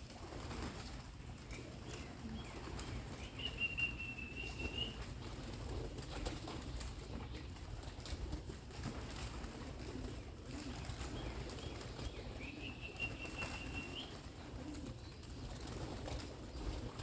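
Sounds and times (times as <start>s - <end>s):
pigeons cooing: 0.0s - 17.0s
wings flapping: 0.0s - 17.0s.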